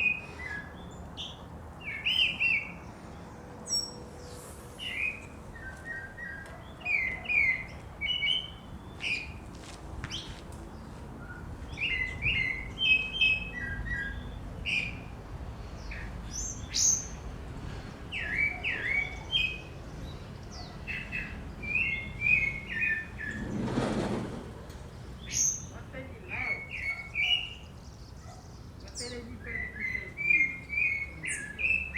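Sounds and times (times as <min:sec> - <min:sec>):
small birds chirping and trilling: 0:00.0 - 0:24.1, 0:24.8 - 0:31.9.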